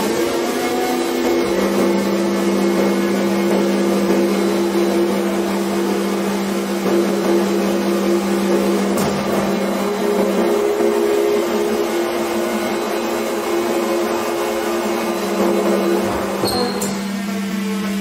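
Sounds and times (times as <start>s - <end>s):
welding machine humming and whirring: 0.0s - 18.0s.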